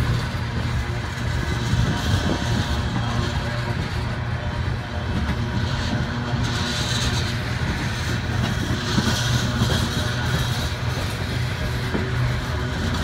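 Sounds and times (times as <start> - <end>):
freight train passing: 0.0 - 13.0.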